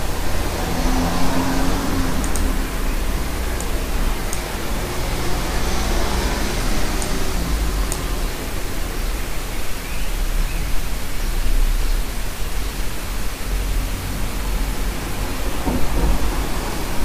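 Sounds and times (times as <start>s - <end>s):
steady noise: 0.0s - 17.0s.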